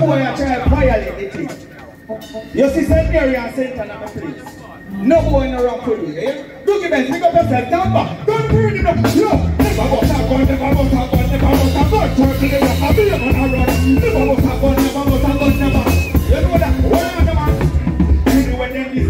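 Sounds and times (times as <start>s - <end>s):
live reggae band music: 0.0s - 19.0s.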